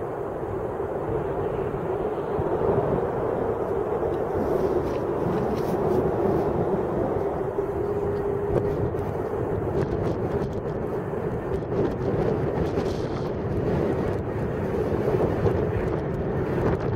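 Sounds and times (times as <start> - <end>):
jet engines droning: 0.0 - 16.9.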